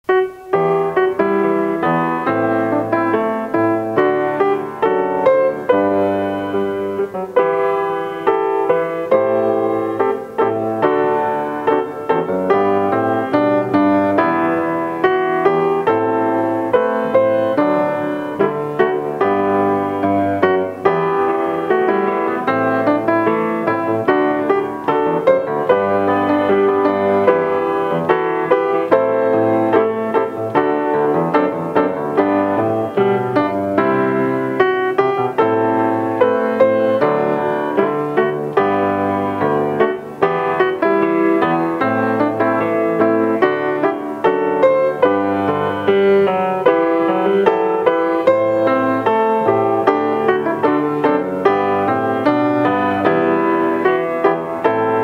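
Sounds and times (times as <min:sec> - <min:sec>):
solo piano playing: 0:00.0 - 0:55.0.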